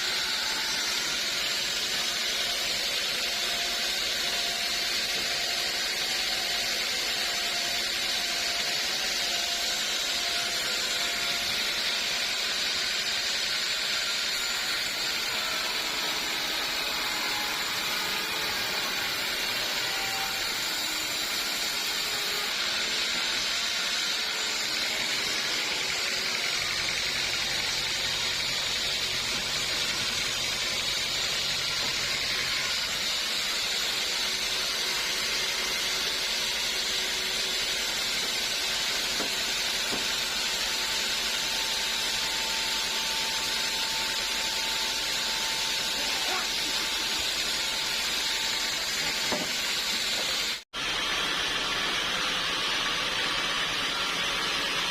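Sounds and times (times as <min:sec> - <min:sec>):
sawmill saw hissing: 0:00.0 - 0:54.9.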